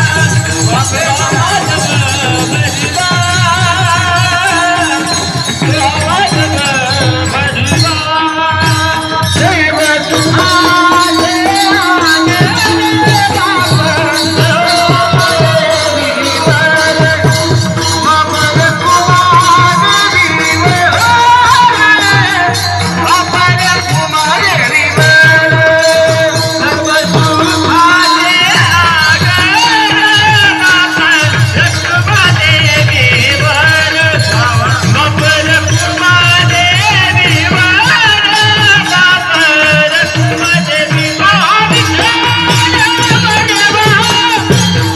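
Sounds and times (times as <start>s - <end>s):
drum strokes: 0.0s - 44.9s
jingling hand percussion: 0.0s - 44.9s
voices singing devotional song: 0.0s - 44.9s.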